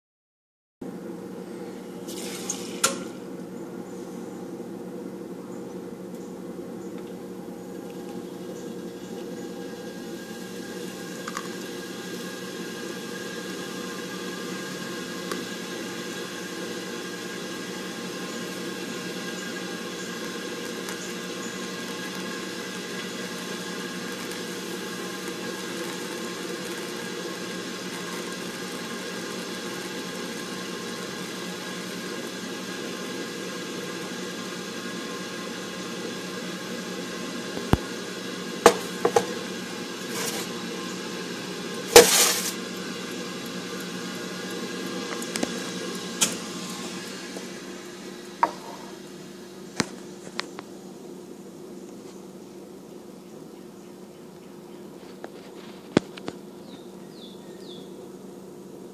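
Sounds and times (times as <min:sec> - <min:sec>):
espresso machine humming: 0:00.8 - 0:58.9.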